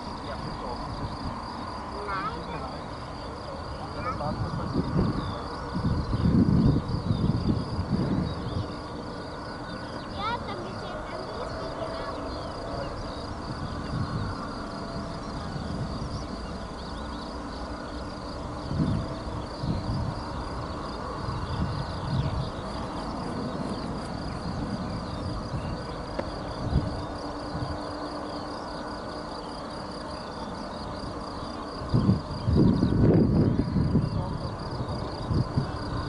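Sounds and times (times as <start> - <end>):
distant jet engine rumble: 0.0 - 36.0
insects chirring: 0.0 - 36.0.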